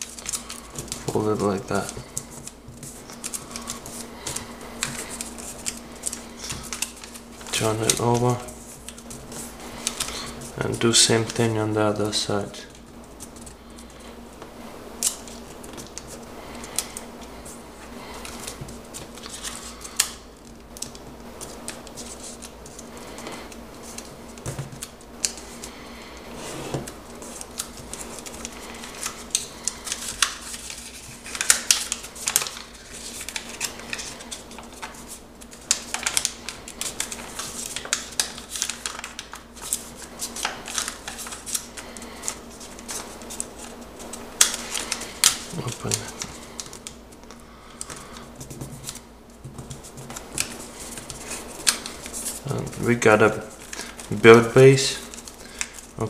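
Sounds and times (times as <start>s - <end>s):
paper rustling and crackling: 0.0s - 14.2s, 15.0s - 56.0s.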